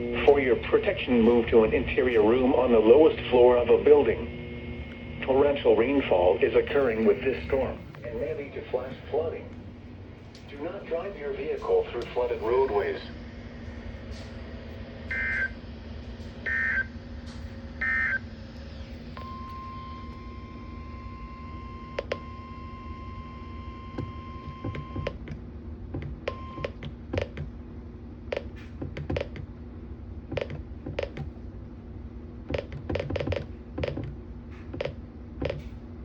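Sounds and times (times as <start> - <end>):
low hum: 0.0 - 36.0.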